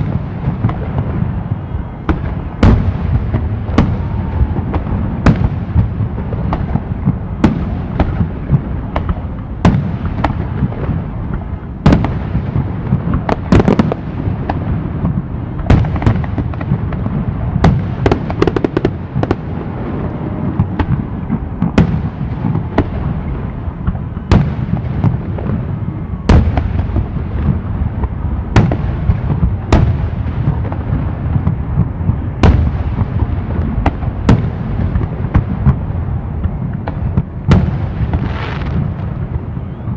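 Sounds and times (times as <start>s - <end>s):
low rumble of explosions: 0.0s - 39.9s.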